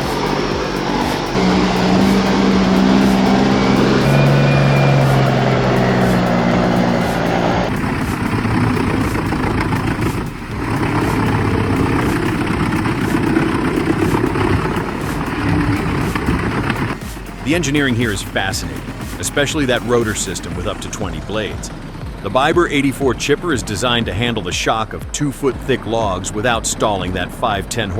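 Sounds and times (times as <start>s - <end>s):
rough noisy machine: 0.0s - 27.9s
truck engine droning: 0.0s - 27.9s.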